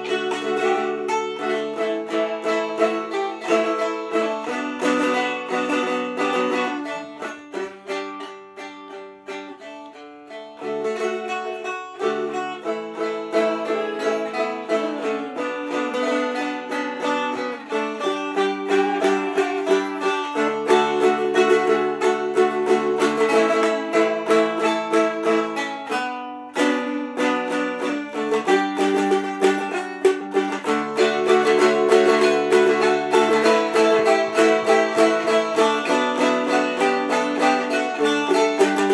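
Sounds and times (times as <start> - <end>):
plucked dulcimers: 0.0 - 38.9.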